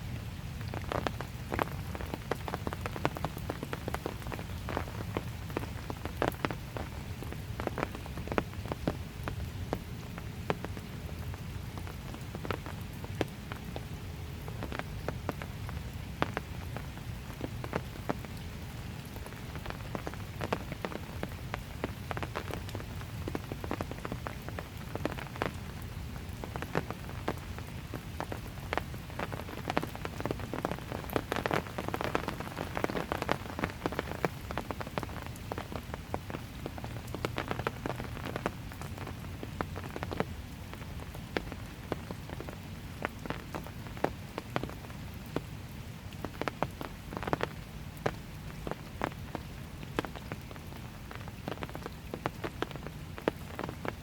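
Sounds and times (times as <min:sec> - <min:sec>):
raindrops tapping: 0:00.0 - 0:54.0.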